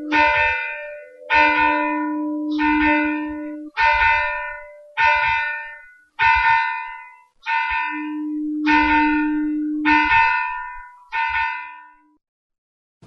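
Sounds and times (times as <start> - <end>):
low steady tone: 0.0 - 6.1, 6.7 - 12.2
church bell tolling: 0.0 - 12.2.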